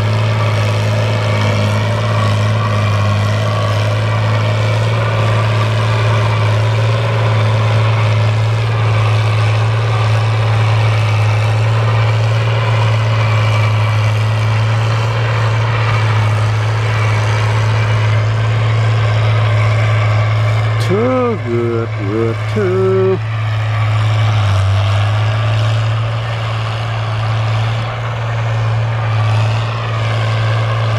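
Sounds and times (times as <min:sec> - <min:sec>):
tractor diesel engine droning: 0:00.0 - 0:30.9.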